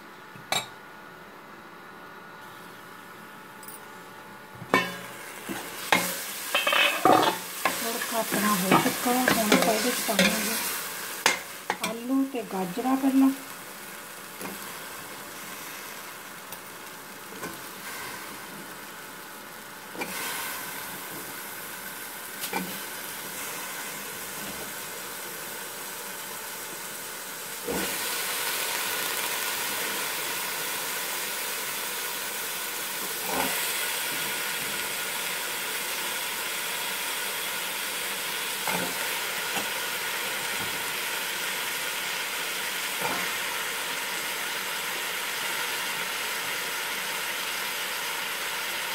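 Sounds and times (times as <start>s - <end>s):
spices sizzling in hot oil: 4.7s - 48.9s.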